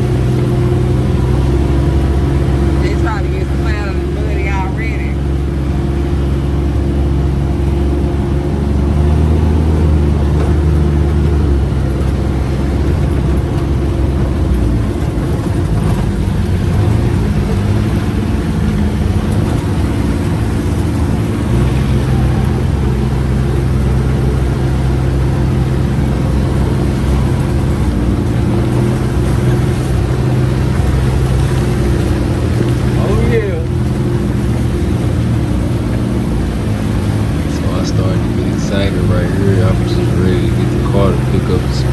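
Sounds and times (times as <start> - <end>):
utility vehicle engine running: 0.0 - 41.9.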